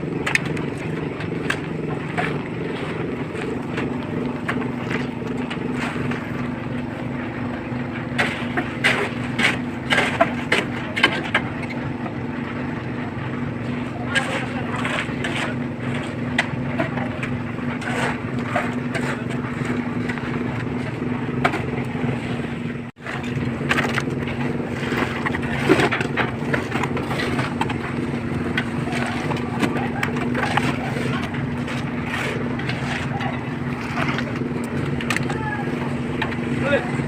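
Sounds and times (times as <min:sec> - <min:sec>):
concrete mixer engine running: 0:00.0 - 0:37.0
scrapes and knocks: 0:00.1 - 0:06.9, 0:08.0 - 0:11.9, 0:14.0 - 0:22.2, 0:23.0 - 0:37.0.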